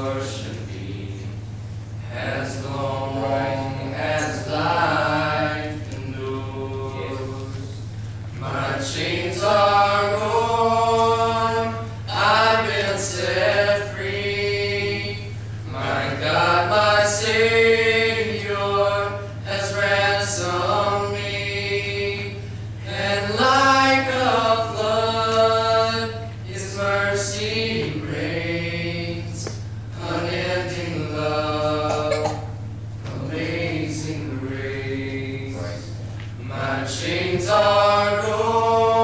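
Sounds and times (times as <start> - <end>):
steady low hum: 0.0 - 39.0
male voices singing unaccompanied: 2.0 - 39.0.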